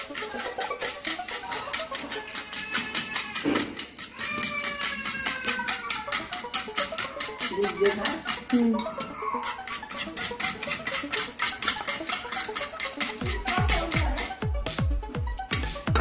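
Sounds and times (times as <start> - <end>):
whisk beating eggs in metal bowl: 0.0 - 16.0.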